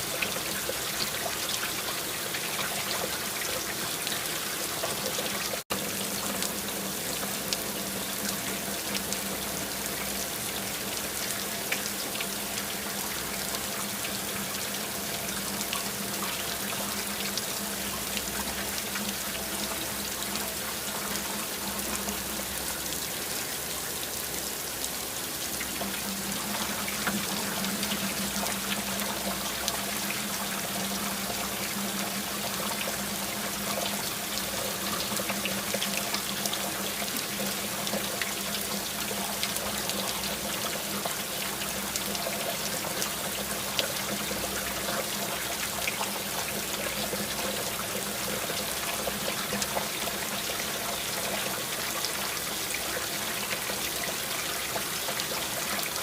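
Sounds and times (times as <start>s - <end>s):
rain drops ticking on a surface: 0.0s - 56.0s
running water trickle: 0.0s - 56.0s.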